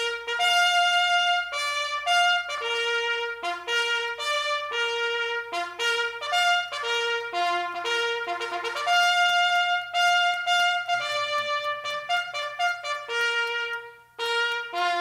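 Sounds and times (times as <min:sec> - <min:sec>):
bugle playing a call: 0:00.0 - 0:15.0.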